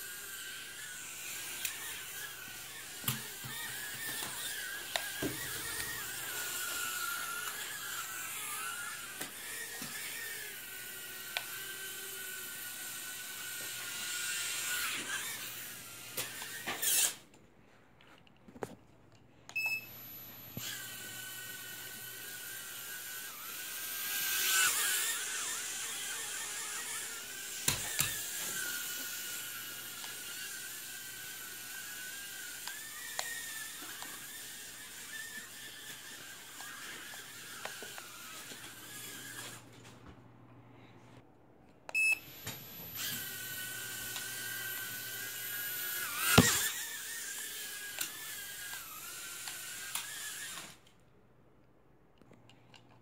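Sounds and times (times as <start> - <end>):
toy drone motors whining: 0.0 - 17.3, 19.6 - 39.8, 42.0 - 50.9.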